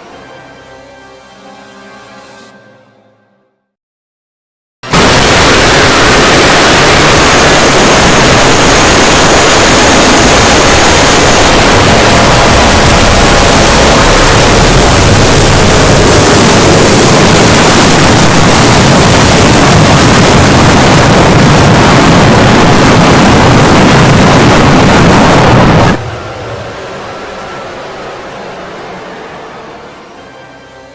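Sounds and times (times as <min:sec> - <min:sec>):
loud distorted noise blast: 0:04.8 - 0:30.9
faint high whine: 0:04.9 - 0:30.9.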